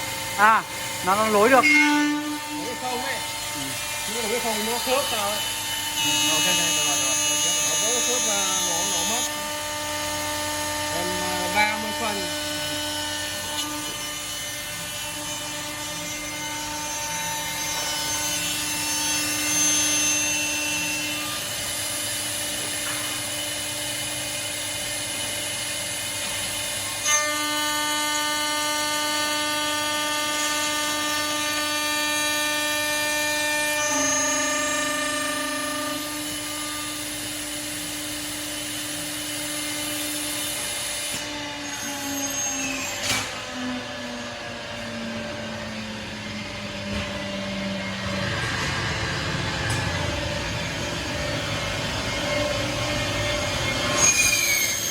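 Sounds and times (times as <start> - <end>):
router spindle whine: 0.0 - 54.9.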